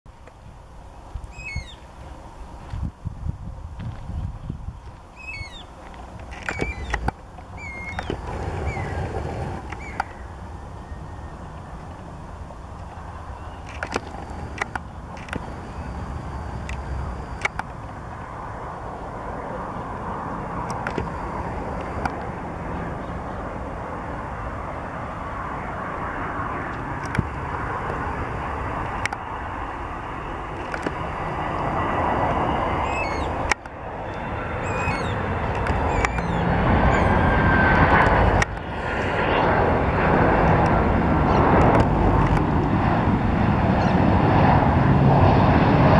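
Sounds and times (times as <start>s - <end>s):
jet engine rumble: 0.1s - 45.9s.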